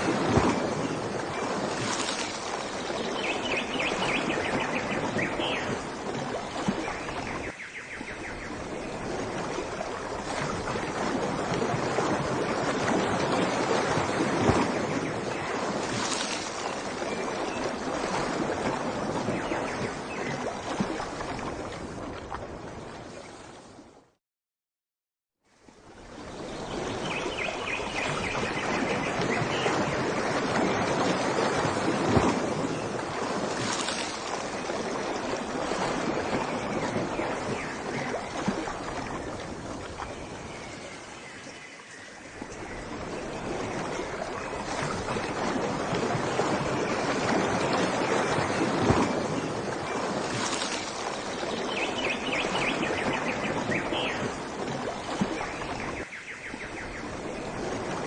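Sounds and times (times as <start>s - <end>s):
surf washing in: 0.0s - 23.8s, 25.8s - 58.0s.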